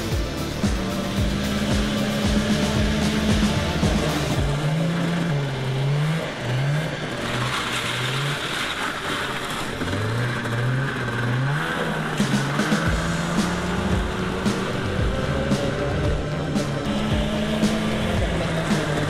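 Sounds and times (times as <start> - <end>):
background music with bass line: 0.0 - 6.9, 9.9 - 19.0
snowmobile engine revving: 0.0 - 19.0.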